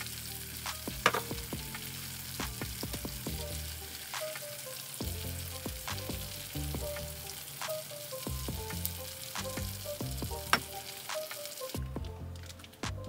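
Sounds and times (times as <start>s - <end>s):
meat sizzling in frying pan: 0.0s - 12.9s
background music with bass line: 0.0s - 13.0s.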